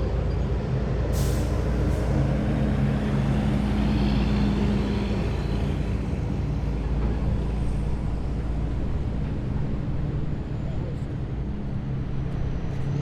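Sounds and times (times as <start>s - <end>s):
heavy vehicles engine rumble: 0.0s - 13.0s.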